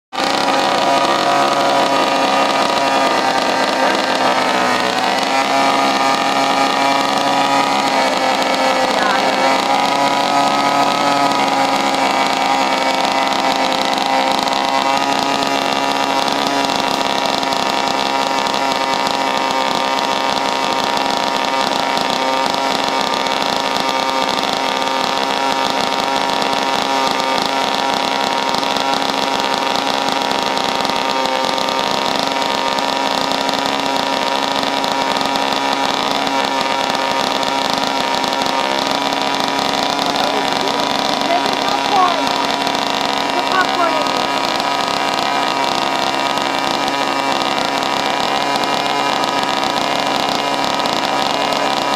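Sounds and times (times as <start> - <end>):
chainsaw engine running: 0.0 - 51.9.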